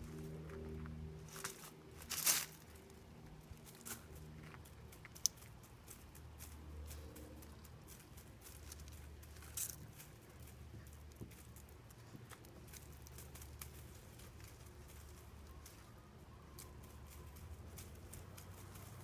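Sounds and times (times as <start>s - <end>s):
paws rustling in shrub and gravel: 0.0s - 19.0s
steady low hum: 0.0s - 19.0s.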